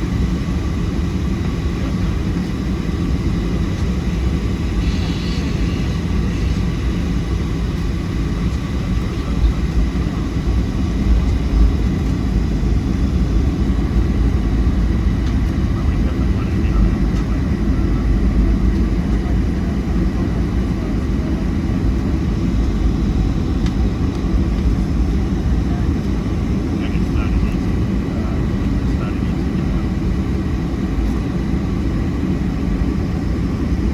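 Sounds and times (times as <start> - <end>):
aircraft cabin rumble: 0.0 - 33.9.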